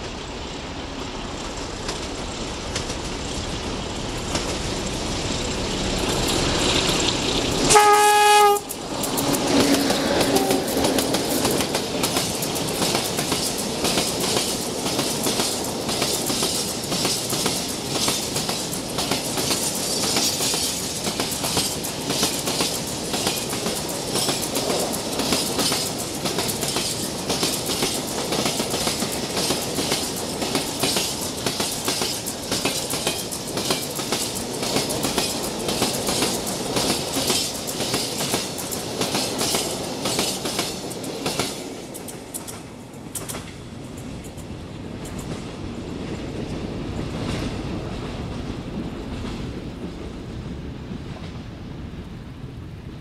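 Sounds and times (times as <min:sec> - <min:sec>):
train rumble: 0:00.0 - 0:53.0.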